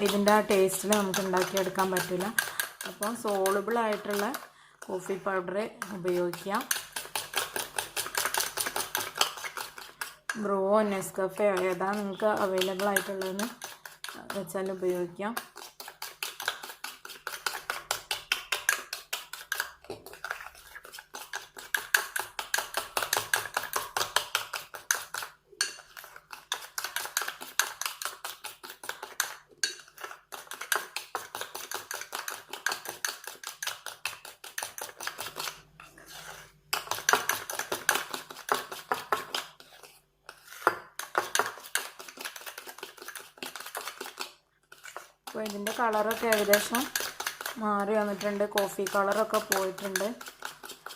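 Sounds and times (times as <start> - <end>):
spoon beating coffee in a cup: 0.0 - 50.9.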